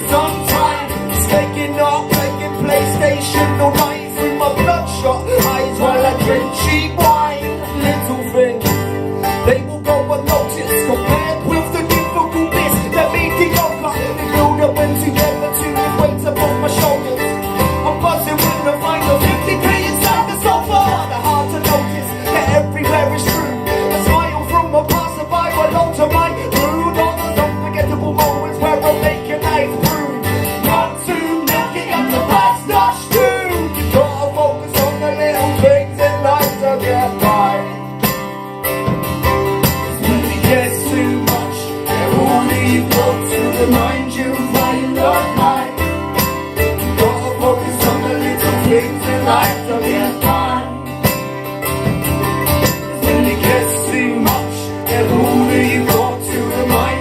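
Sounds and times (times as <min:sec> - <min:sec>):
person singing: 0:00.0 - 0:38.0, 0:39.9 - 0:51.3, 0:52.7 - 0:57.0
guitar music: 0:00.0 - 0:57.0.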